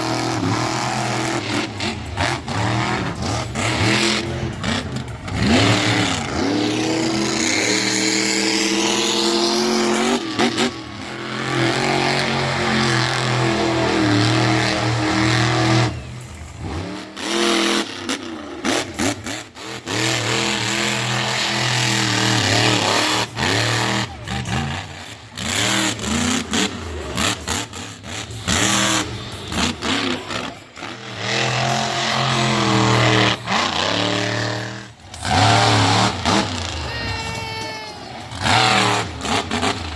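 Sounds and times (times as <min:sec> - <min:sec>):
monster truck engines revving: 0:00.0 - 0:39.9.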